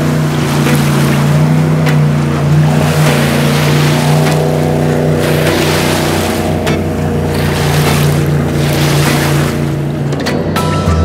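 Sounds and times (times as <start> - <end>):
rushing water noise: 0.0 - 10.8
motorboat engine drone: 0.0 - 11.0.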